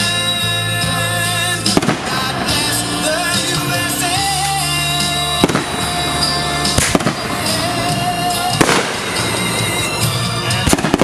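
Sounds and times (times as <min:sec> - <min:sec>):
recorded music: 0:00.0 - 0:11.0
fireworks banging: 0:01.2 - 0:11.0.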